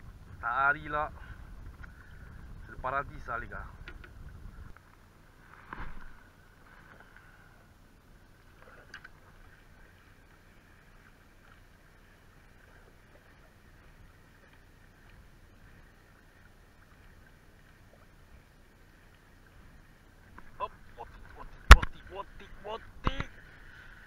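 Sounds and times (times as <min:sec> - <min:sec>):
faint water and wind noise: 0:00.0 - 0:24.0.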